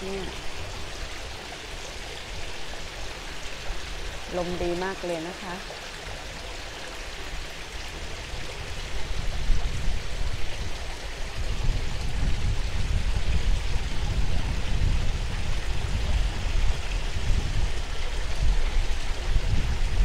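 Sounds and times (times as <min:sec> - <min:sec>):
waterfall splashing into pond: 0:00.0 - 0:20.0
wind buffeting microphone: 0:00.0 - 0:20.0.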